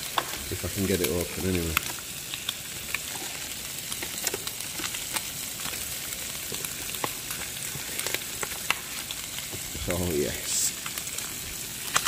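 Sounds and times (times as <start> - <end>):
bacon sizzling in a pan: 0.0 - 12.0
fat popping and crackling: 0.0 - 12.0.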